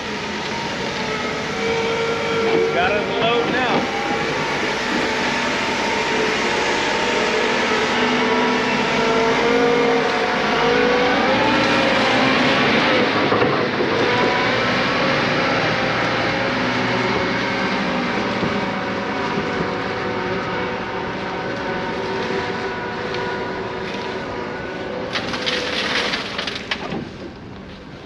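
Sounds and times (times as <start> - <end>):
heavy machine engine running: 0.0 - 28.0.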